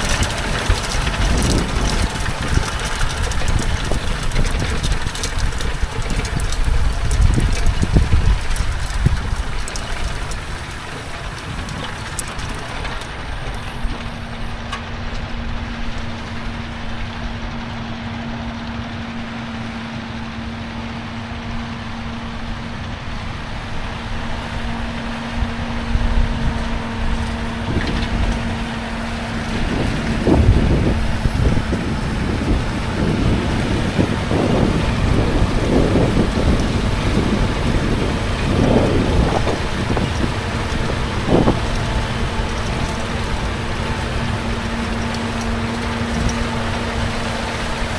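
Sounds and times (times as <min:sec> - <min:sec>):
farm machine engine running: 0:00.0 - 0:47.9
heavy low rumbling: 0:00.0 - 0:47.9.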